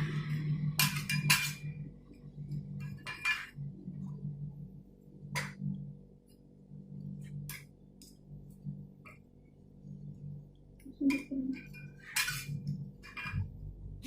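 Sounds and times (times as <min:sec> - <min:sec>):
machine low hum: 0:00.0 - 0:14.0.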